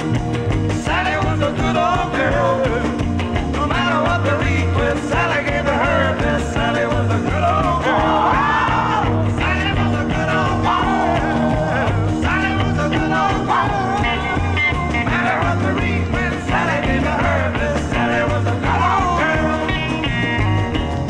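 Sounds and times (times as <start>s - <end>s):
instrumental country band music: 0.0s - 21.0s.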